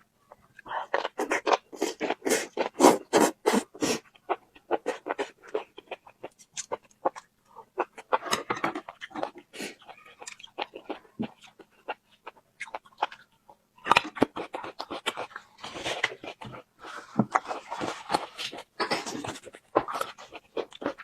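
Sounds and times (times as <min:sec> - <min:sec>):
person chewing and crunching food: 0:00.2 - 0:21.0.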